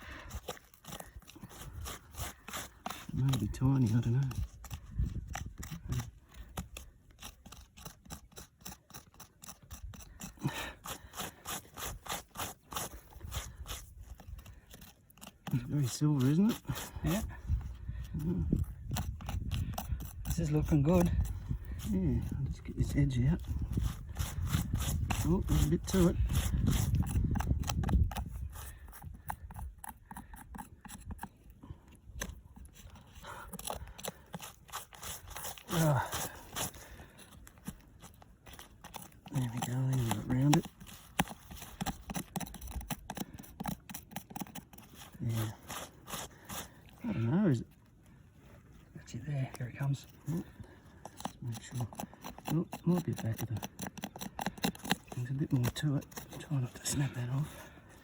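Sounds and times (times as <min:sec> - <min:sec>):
dirt and small stones crunching: 0:00.0 - 0:58.0
hand tool scraping dry soil: 0:00.0 - 0:58.0.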